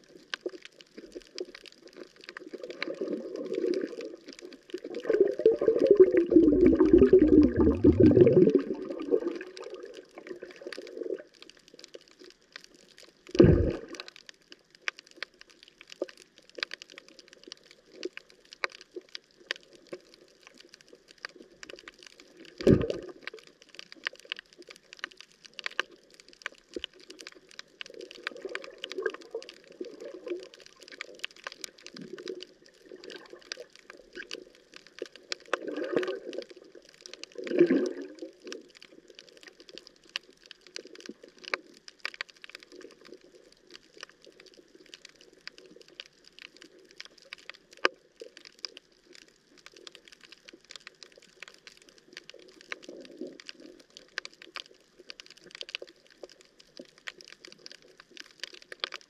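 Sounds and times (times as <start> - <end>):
underwater bubbling gurgles: 0.0 - 59.0.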